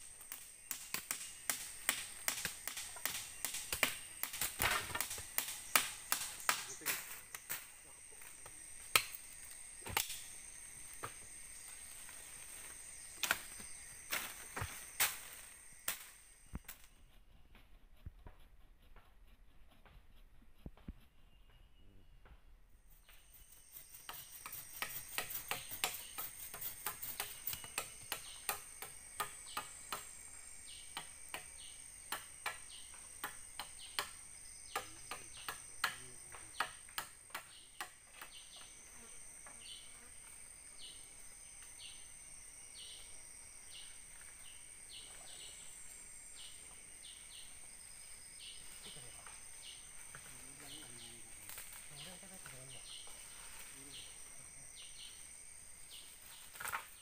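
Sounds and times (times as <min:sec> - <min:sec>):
low insect trill: 0:00.0 - 0:57.0
short pulsed insect call: 0:00.0 - 0:57.0.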